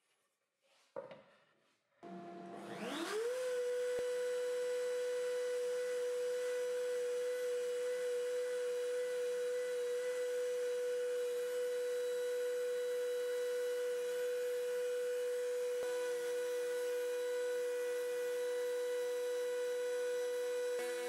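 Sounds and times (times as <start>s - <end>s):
router whining: 2.0s - 21.0s.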